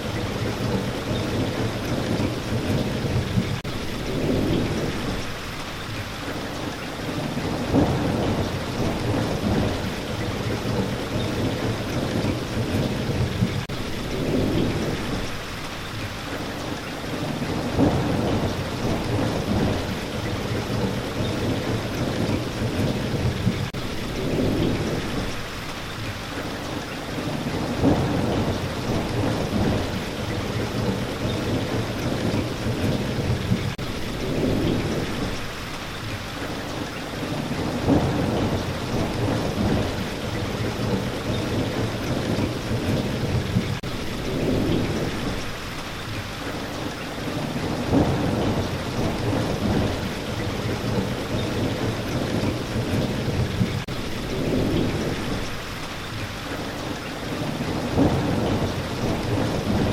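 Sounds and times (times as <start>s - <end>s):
low rumbles of thunder: 0.0s - 59.9s
rain hissing: 0.0s - 59.9s.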